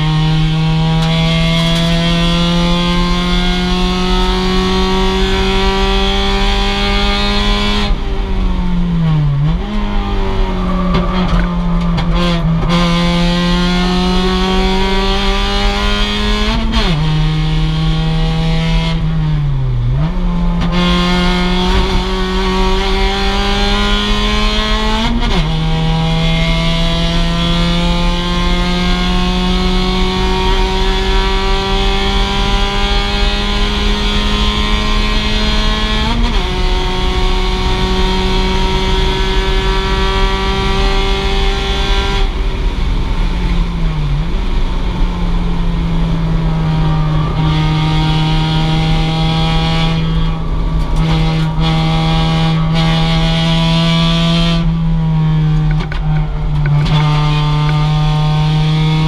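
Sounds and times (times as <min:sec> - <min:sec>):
car engine revving at racing speed: 0:00.0 - 0:59.0.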